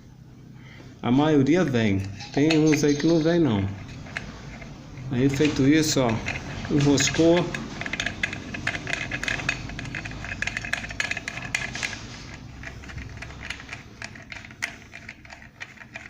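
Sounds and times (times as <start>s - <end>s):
metal fan parts clicking and rattling: 1.6s - 16.0s.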